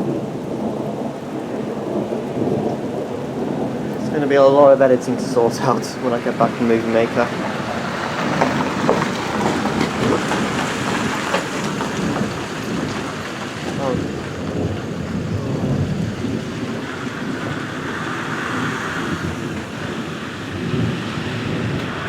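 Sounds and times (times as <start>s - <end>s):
low rumble of thunder: 0.0s - 22.0s
rain falling: 0.0s - 22.0s
raindrops ticking: 0.0s - 22.0s.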